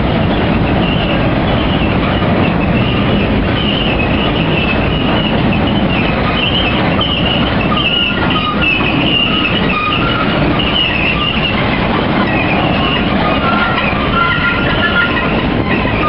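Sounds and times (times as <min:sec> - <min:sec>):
high wheel squeal: 0:00.0 - 0:16.0
train wheels rumbling and rattling: 0:00.0 - 0:16.0.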